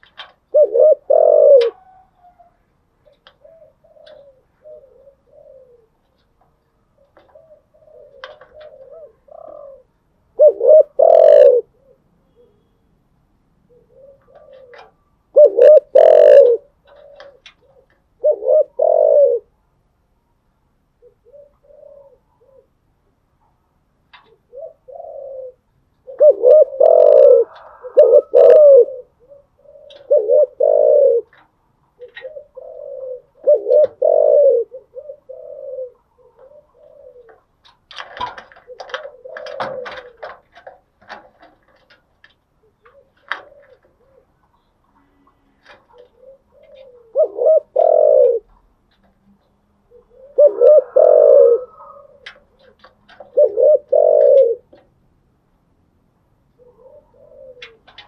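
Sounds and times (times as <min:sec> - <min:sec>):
dove cooing: 0:00.0 - 0:12.7, 0:13.6 - 0:19.6, 0:21.0 - 0:22.9, 0:24.2 - 0:55.0, 0:56.4 - 0:58.0.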